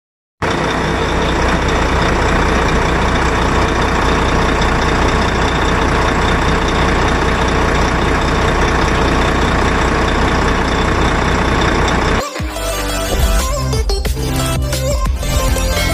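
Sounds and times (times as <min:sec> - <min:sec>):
diesel truck engine running: 0:00.4 - 0:15.9.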